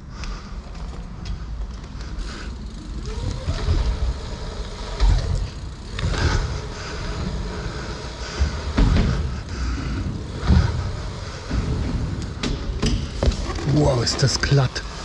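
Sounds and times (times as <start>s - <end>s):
bike tyres rolling on ramps: 0.0s - 15.0s.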